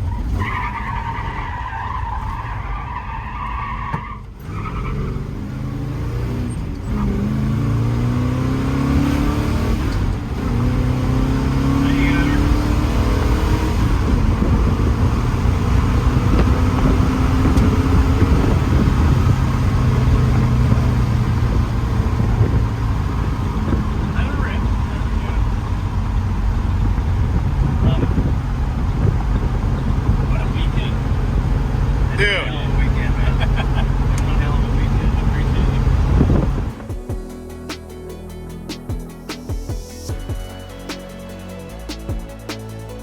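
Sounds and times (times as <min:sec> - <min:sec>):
tires squealing: 0:00.0 - 0:36.9
car engine revving: 0:00.0 - 0:43.0.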